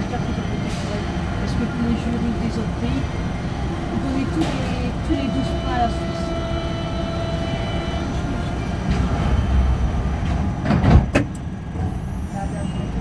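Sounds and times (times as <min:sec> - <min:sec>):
metro train low rumble: 0:00.0 - 0:13.0.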